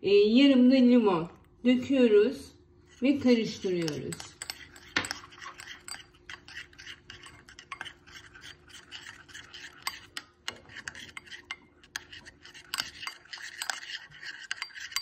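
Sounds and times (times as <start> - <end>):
spoon stirring and scraping container: 2.8 - 15.0.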